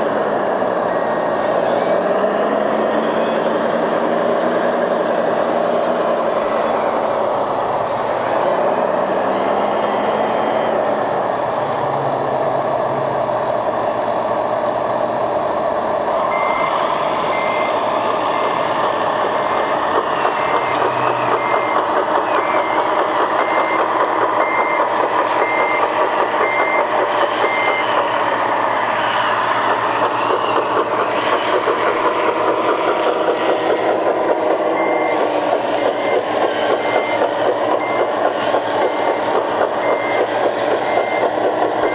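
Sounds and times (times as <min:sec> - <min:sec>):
model vehicle motor whine: 0:00.0 - 0:41.9
reversing beeper beeping: 0:00.0 - 0:41.9.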